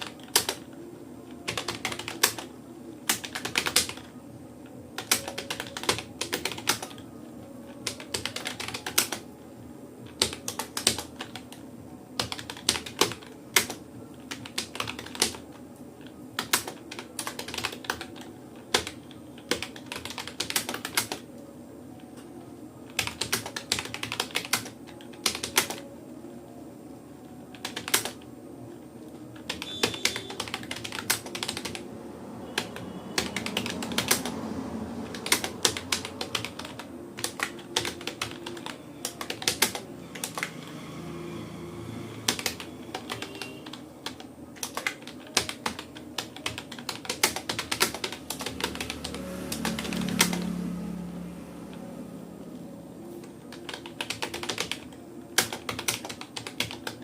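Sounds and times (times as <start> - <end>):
computer keyboard typing: 0.0 - 7.1, 7.7 - 9.4, 10.0 - 26.5, 27.2 - 28.3, 29.0 - 40.8, 42.2 - 51.0, 51.6 - 57.0.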